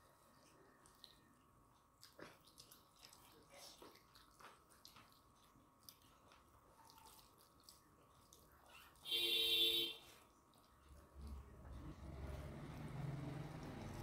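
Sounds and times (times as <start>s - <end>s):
mouths chewing with wet clicks: 0.0s - 9.1s, 10.1s - 14.0s.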